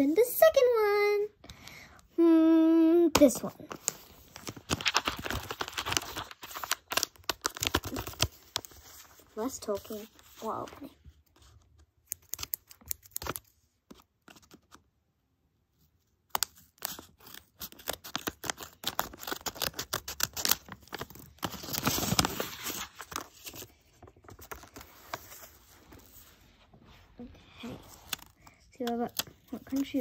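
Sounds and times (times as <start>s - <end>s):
paper crinkling and rustling: 3.2s - 14.8s, 16.3s - 30.0s.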